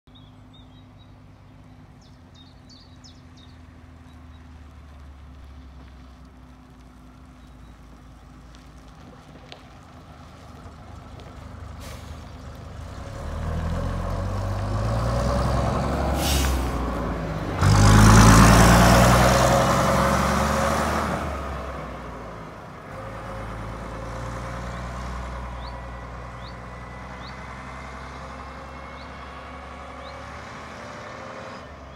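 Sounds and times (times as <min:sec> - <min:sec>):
bus diesel engine: 0:00.1 - 0:31.9.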